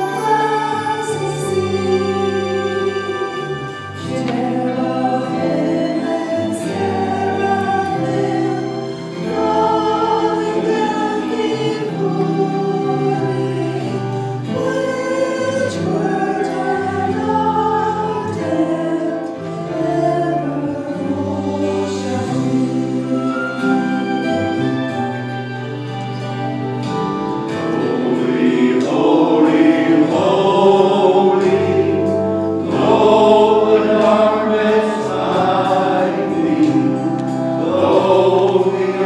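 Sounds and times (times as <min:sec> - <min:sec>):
mixed choir singing: 0:00.0 - 0:24.9, 0:26.8 - 0:39.0.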